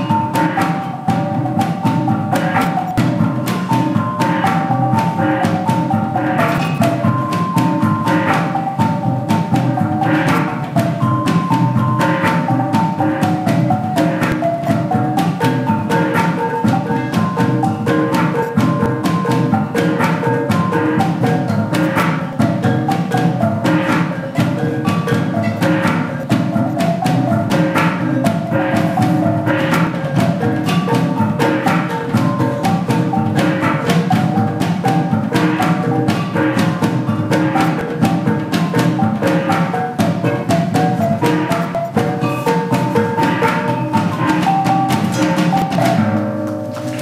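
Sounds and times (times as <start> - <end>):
mallet-struck notes: 0.0 - 47.0
percussion music: 0.0 - 47.0
wooden clicks and drum strokes: 0.0 - 47.0.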